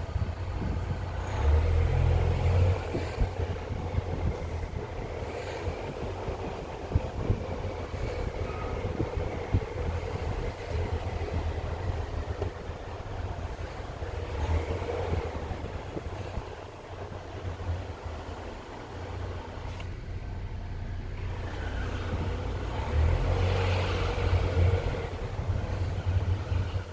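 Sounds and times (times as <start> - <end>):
car engine knocking: 0.0 - 22.9.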